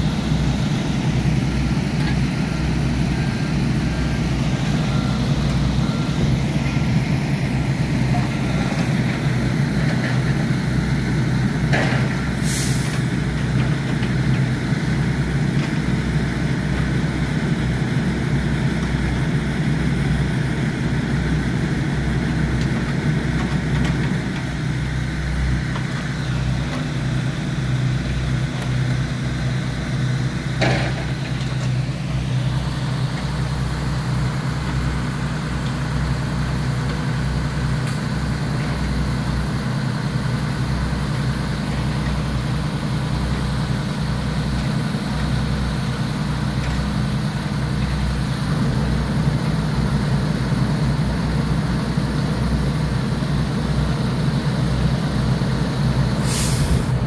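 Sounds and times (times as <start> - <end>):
heavy equipment engine idling: 0.0 - 57.0.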